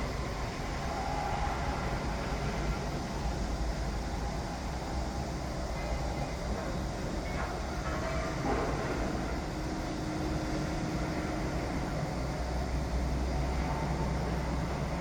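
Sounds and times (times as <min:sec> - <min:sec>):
faint mechanical whine: 0:00.0 - 0:15.0.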